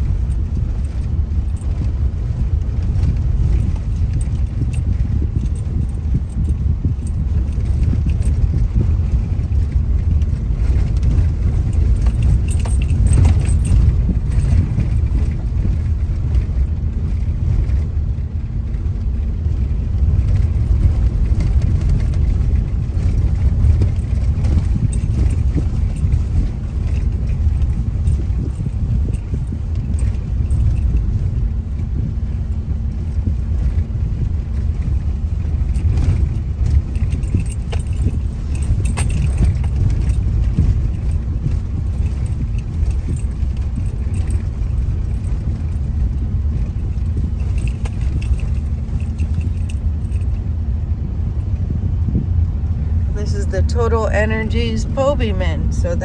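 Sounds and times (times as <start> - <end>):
small clicks and rattles: 0.0 - 8.8, 9.4 - 17.8, 19.6 - 50.4
tyres and engine rumbling: 0.0 - 56.0.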